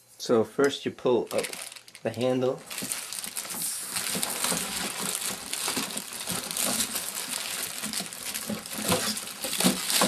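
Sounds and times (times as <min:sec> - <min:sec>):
plastic packaging crinkling: 0:01.2 - 0:10.0.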